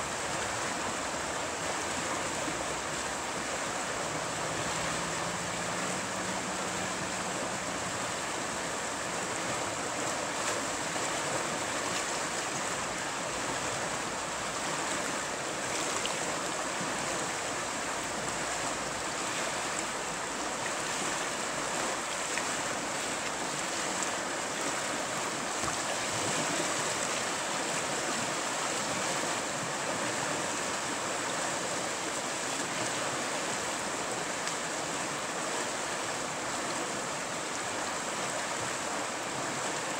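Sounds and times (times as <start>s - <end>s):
river rapids rushing: 0.0s - 39.9s.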